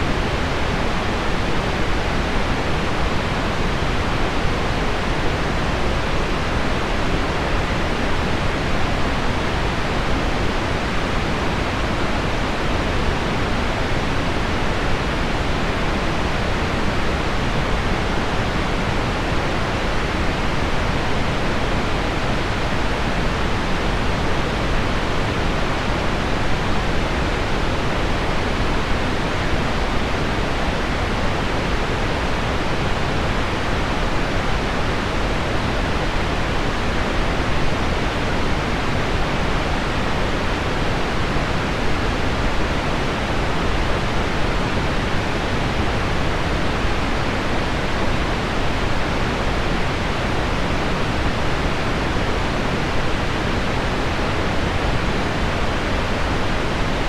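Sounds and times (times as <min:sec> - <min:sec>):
pink noise: 0:00.0 - 0:57.0.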